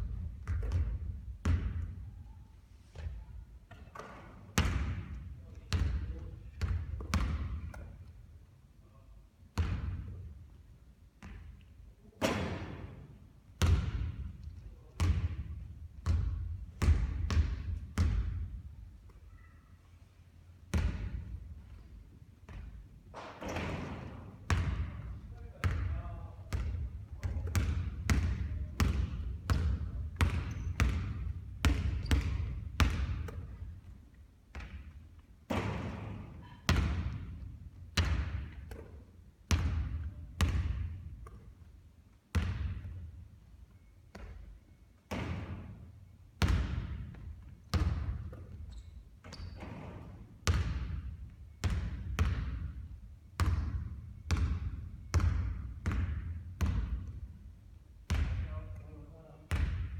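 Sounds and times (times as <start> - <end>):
basketball bouncing on court: 0.0 - 2.4, 3.0 - 8.1, 9.5 - 10.2, 11.2 - 13.0, 13.6 - 18.7, 20.7 - 21.8, 22.4 - 41.4, 42.3 - 43.1, 43.8 - 45.8, 46.4 - 57.3, 58.0 - 58.8, 59.5 - 59.9.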